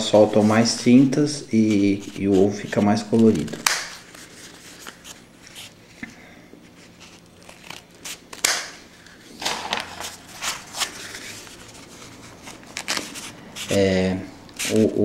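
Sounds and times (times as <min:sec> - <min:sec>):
crepe paper rustling: 0:00.0 - 0:15.0.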